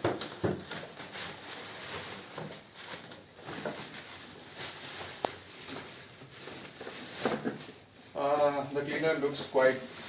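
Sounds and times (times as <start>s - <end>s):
packaging crackling and rustling: 0.0s - 10.0s.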